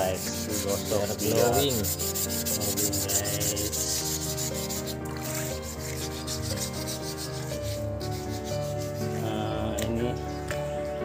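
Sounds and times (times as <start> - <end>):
scrubbing metal part in water: 0.0 - 9.5
instrumental music with rasping beat: 0.0 - 11.0.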